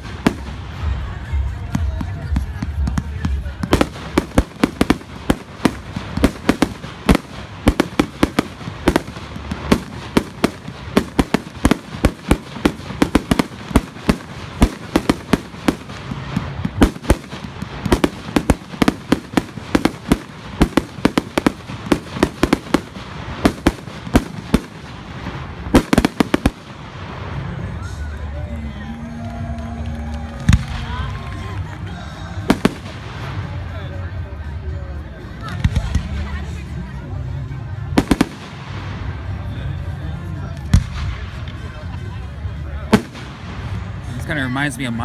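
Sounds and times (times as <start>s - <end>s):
fireworks sharp reports: 0.0s - 45.0s.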